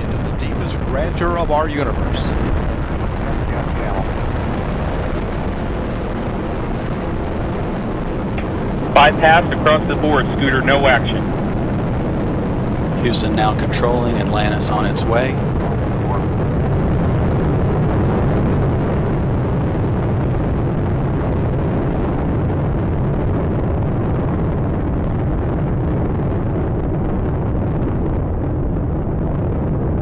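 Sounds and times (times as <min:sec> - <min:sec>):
rocket engines roaring: 0:00.0 - 0:30.0.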